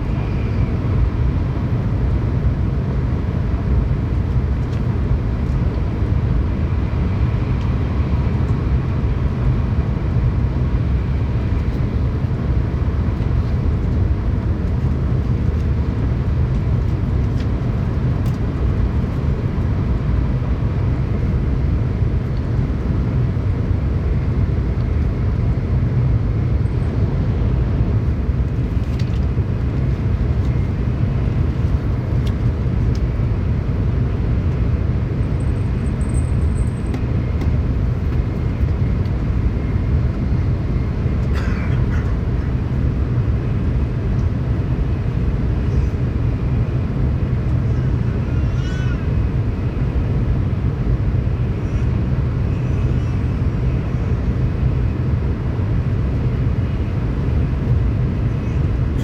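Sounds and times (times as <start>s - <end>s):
train rumble inside cabin: 0.0s - 59.0s.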